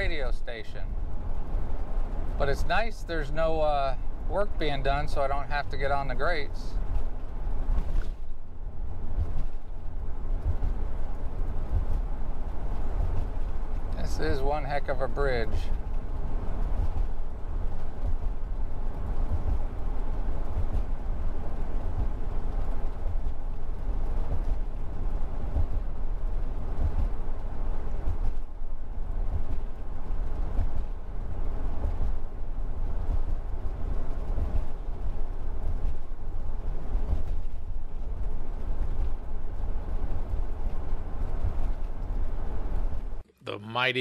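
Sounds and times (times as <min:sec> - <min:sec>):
road noise inside vehicle cab: 0:00.0 - 0:44.0.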